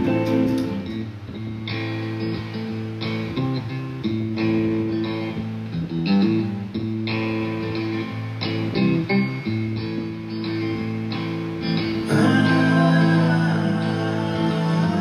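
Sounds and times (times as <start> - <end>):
background music with held chords: 0.0 - 15.0.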